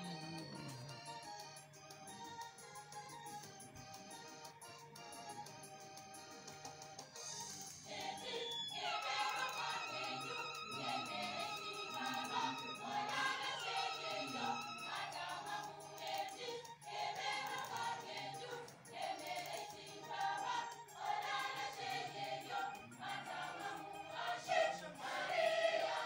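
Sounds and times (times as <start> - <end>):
background music with choir: 0.0 - 26.0.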